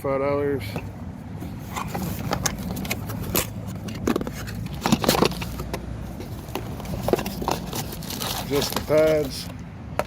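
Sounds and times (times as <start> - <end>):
handling knocks and rustles: 0.7 - 10.0.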